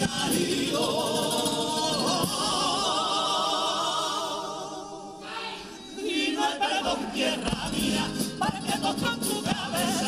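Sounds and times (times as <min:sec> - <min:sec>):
chorus singing with vibrato: 0:00.0 - 0:10.0.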